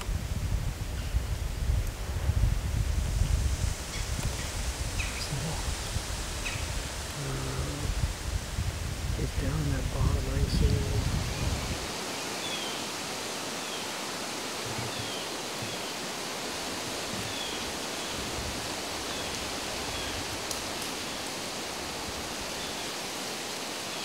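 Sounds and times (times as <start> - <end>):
woodland ambience hiss: 0.0 - 24.0.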